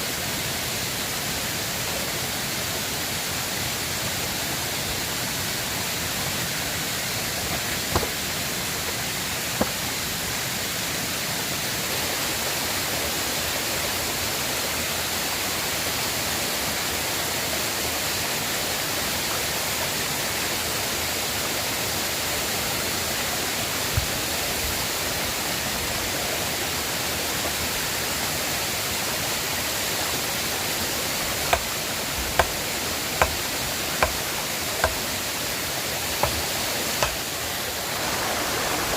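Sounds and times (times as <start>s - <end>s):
river rushing: 0.0s - 38.9s.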